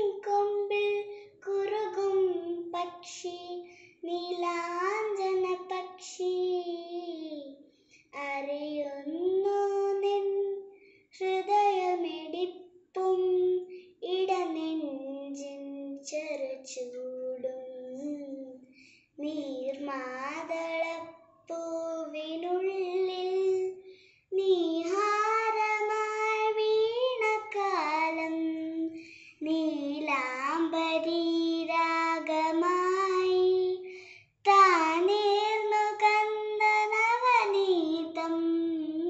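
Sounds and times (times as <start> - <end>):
girl singing unaccompanied: 0.0 - 39.0.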